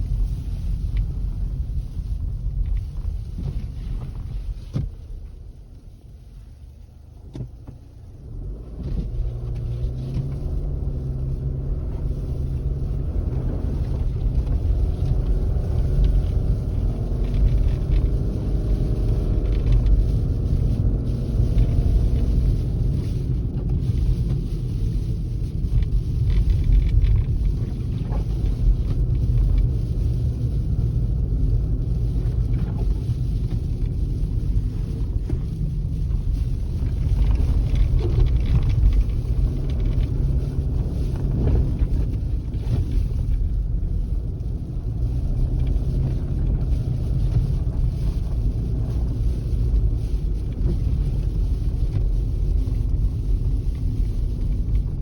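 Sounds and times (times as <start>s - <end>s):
vehicle engine drone: 0.0s - 55.0s
wind rumbling on microphone: 0.0s - 55.0s.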